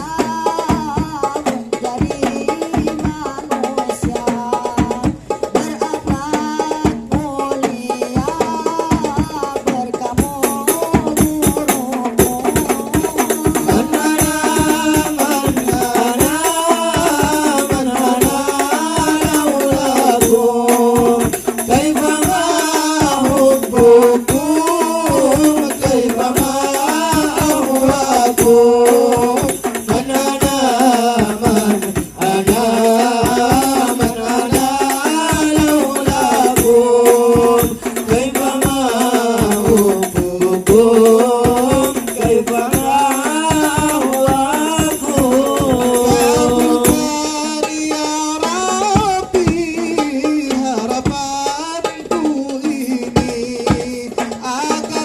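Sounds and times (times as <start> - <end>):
frame drums: 0.0 - 55.0
jingling rattle percussion: 10.1 - 55.0.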